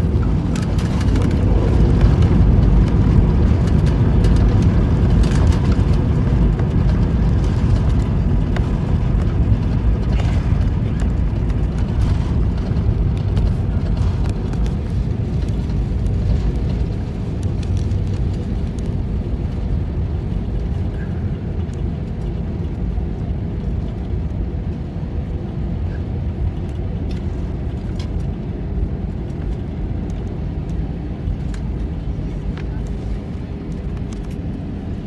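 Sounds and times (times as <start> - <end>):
jet engine cabin rumble: 0.0 - 35.0.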